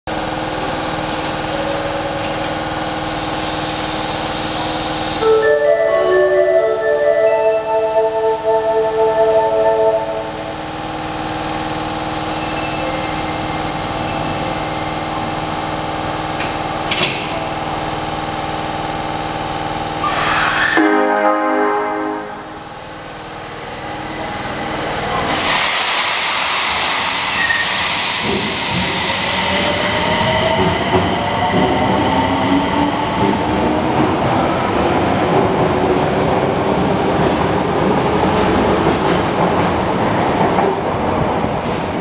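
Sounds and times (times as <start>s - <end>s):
subway train accelerating: 0.0s - 42.0s.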